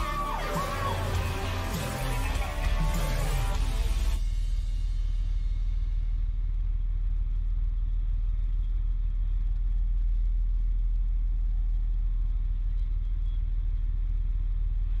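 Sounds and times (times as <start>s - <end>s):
diesel engine rumbling: 0.0s - 4.3s, 5.5s - 15.0s.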